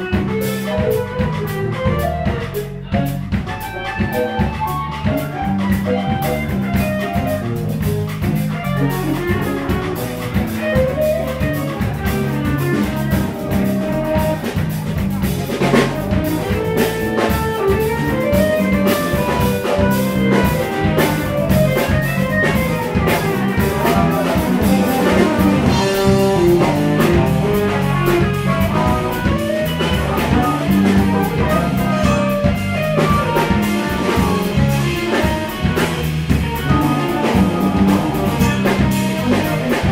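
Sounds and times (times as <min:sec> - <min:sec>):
drum kit: 0:00.0 - 0:39.9
electric bass: 0:00.0 - 0:39.9
electric guitar: 0:00.0 - 0:39.9
keyboards: 0:00.0 - 0:39.9.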